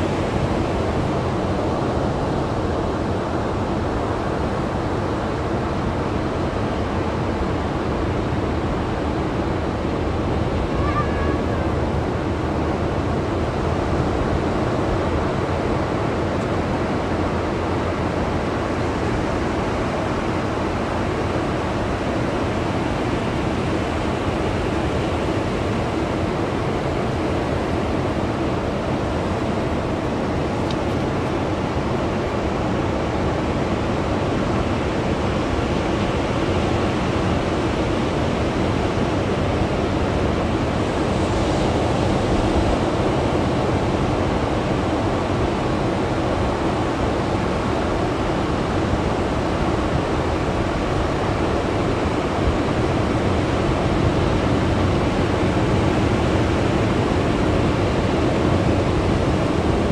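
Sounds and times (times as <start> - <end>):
ocean surf on beach: 0.0 - 59.9.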